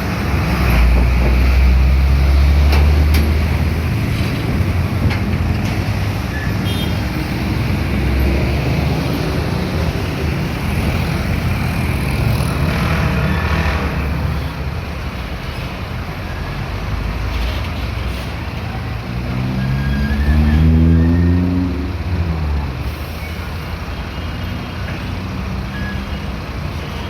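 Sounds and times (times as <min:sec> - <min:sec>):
trucks rumbling past: 0:00.0 - 0:27.0.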